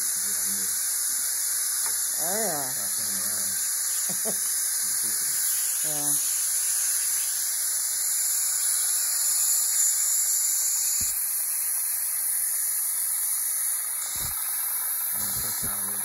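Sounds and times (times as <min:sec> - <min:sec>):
dental suction hiss: 0:00.0 - 0:16.0.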